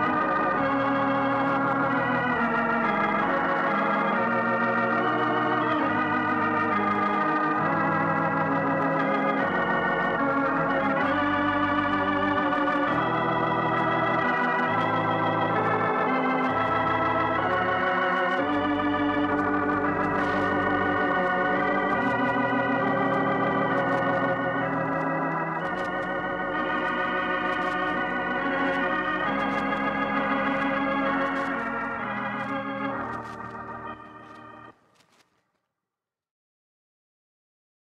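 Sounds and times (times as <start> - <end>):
organ music: 0.0 - 35.2.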